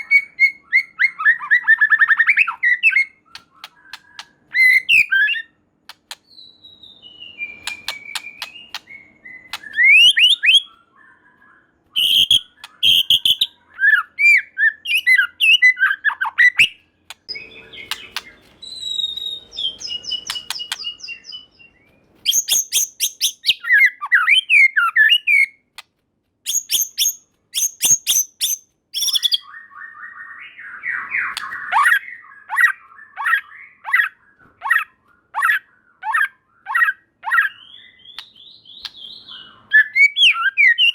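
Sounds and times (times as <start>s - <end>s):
bird singing: 0.0s - 25.8s, 26.5s - 40.9s.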